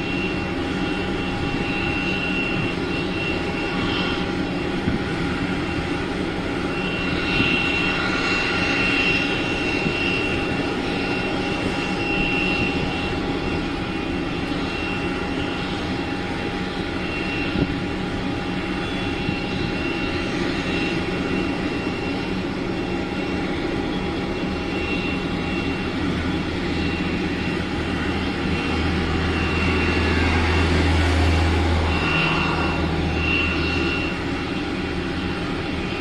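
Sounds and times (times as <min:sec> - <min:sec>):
jet engines roaring and whining: 0:00.0 - 0:36.0.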